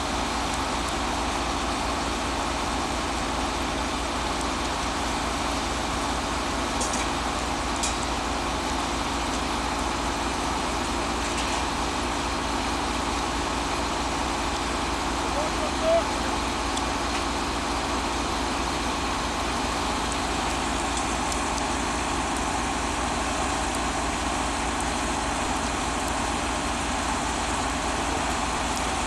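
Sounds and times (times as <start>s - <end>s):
train engine idling: 0.0s - 29.0s.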